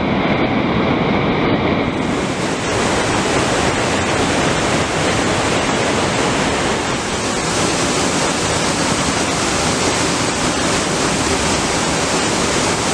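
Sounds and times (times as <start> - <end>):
waterfall rushing: 2.0 - 12.9.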